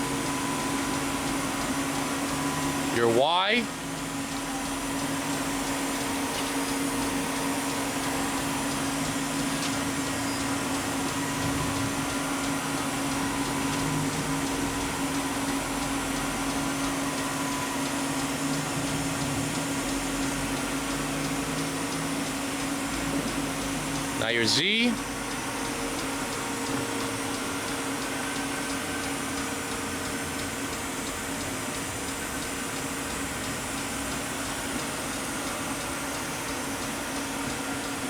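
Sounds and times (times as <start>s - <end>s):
machining center hum and whir: 0.0s - 38.0s.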